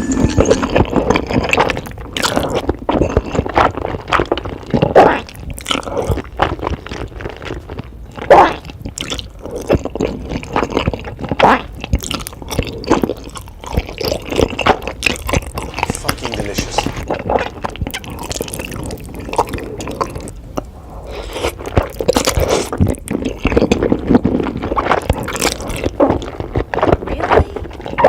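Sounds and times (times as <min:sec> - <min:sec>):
wet squishy chewing: 0:00.0 - 0:28.0.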